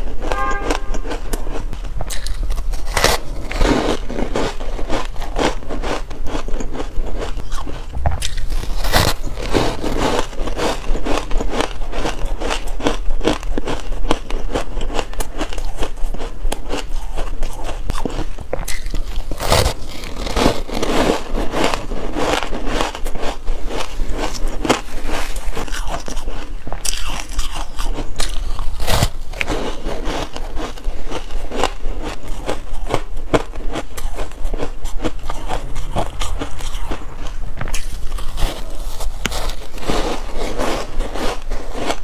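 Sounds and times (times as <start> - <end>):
crisp crunching bites: 0.0 - 42.0.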